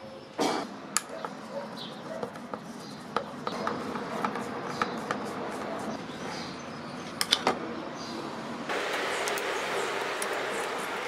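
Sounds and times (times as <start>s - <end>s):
background noise: 0.0s - 9.3s.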